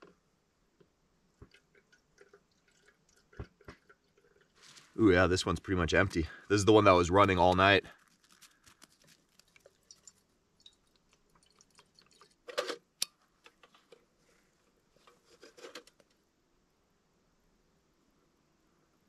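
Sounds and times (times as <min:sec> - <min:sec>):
lantern clicks and rustles: 0:00.8 - 0:16.2.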